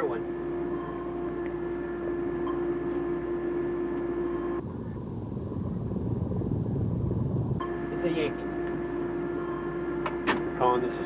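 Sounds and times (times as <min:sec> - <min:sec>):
machinery hum: 0:00.0 - 0:11.0
low underwater rumble: 0:00.4 - 0:10.0.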